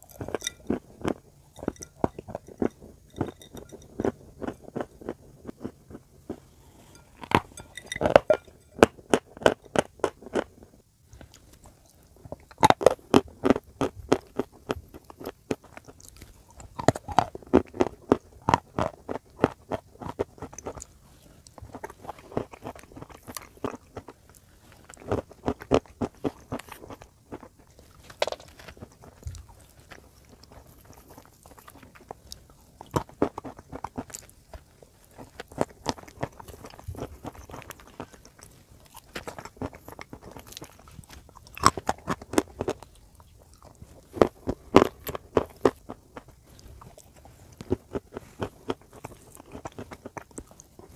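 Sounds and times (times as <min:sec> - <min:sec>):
crunching and chewing: 0:00.0 - 0:50.9.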